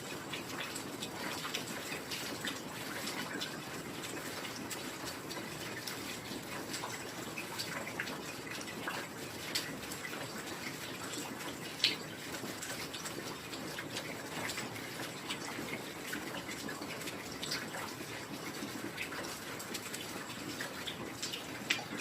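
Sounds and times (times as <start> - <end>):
drops and drips ticking: 0.0 - 22.0.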